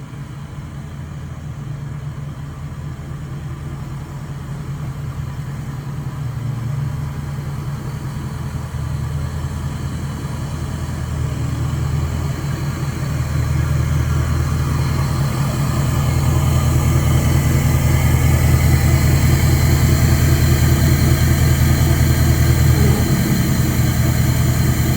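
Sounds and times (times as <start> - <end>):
diesel engine through straight pipe: 0.0 - 24.9.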